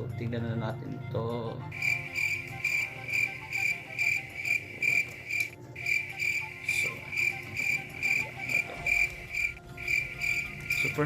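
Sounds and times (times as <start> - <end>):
insect chirping: 1.7 - 11.0.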